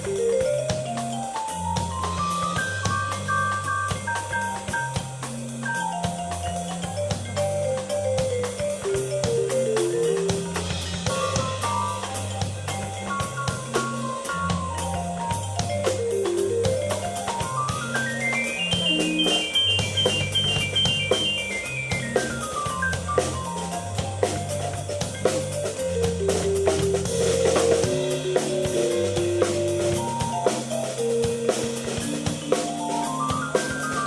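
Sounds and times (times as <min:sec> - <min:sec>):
steady drum beat: 0:00.0 - 0:34.0.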